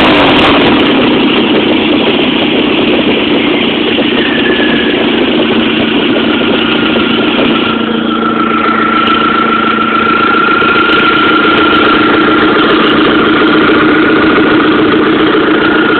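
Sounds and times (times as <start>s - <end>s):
car engine idling: 0.0s - 15.9s
thin high whine: 0.0s - 15.9s.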